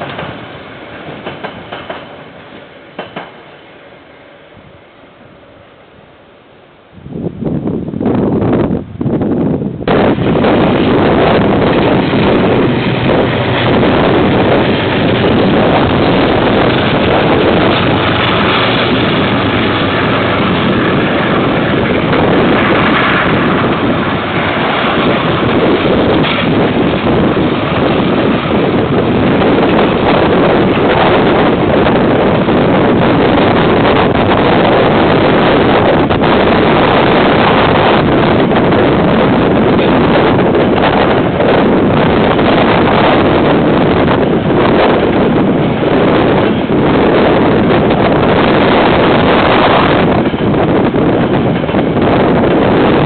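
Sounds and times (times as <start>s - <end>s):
freight train passing: 0.0s - 53.0s
wind noise: 0.0s - 53.0s.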